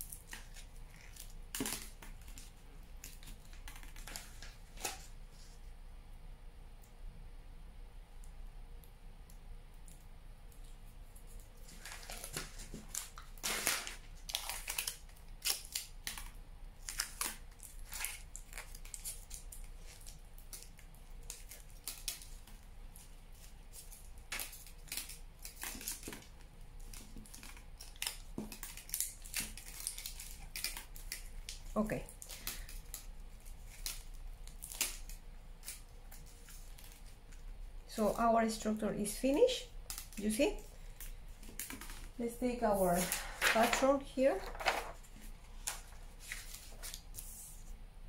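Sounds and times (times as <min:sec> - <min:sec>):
aluminium foil crinkling: 0:00.0 - 0:05.1, 0:10.5 - 0:47.6.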